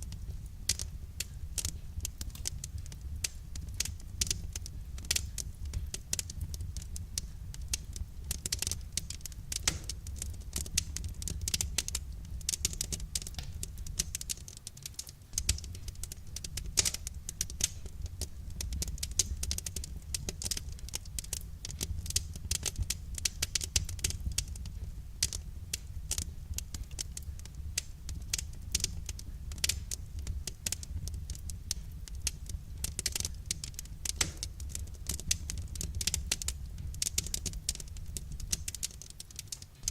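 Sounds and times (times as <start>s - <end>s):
low rumble of burning fire: 0.0s - 39.9s
wood fire crackling: 0.0s - 39.9s.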